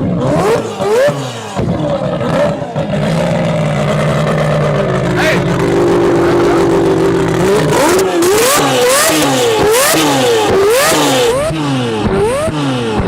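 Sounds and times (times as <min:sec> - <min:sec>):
rotary engine revving: 0:00.0 - 0:13.0.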